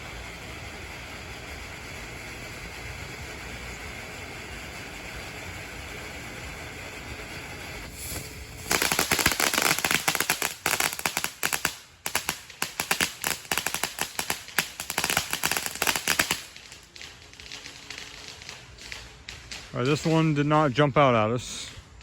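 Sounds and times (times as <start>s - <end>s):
firework crackling pops: 0.0s - 22.0s.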